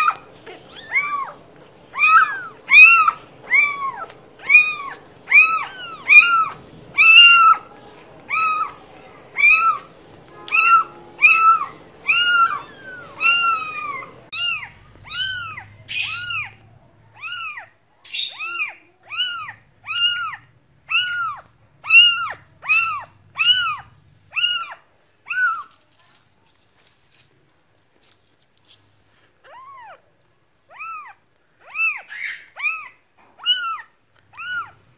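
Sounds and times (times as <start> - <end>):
cat meowing: 0.0 - 25.8, 29.4 - 30.1, 30.7 - 34.9.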